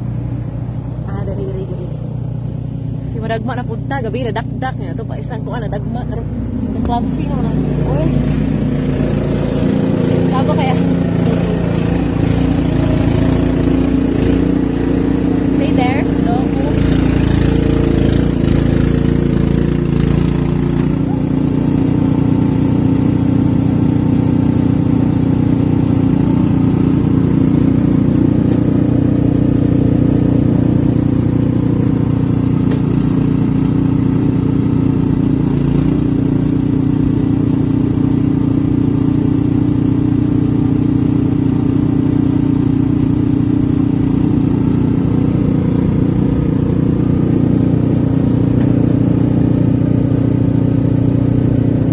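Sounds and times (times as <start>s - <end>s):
engine droning steadily: 0.0s - 51.9s.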